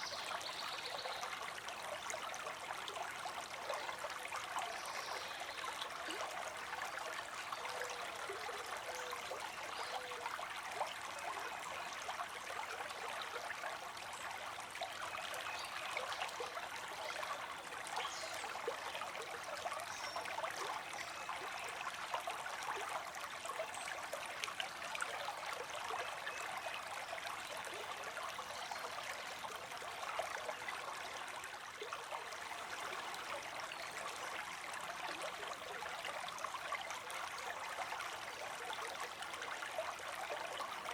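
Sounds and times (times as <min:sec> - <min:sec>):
creek water trickling over stones: 0:00.0 - 0:40.9.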